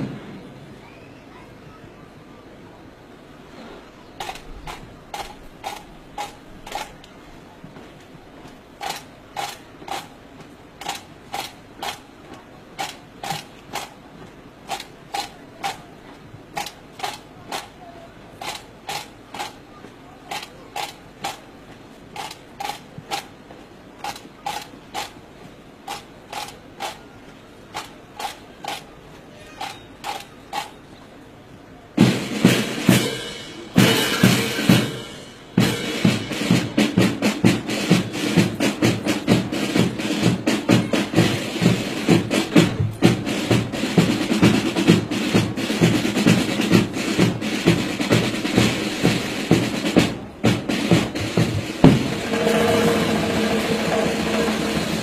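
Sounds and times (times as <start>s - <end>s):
marching drum beat: 4.2s - 30.8s, 32.0s - 55.0s
drum section with snare rolls: 4.2s - 31.0s, 31.6s - 55.0s.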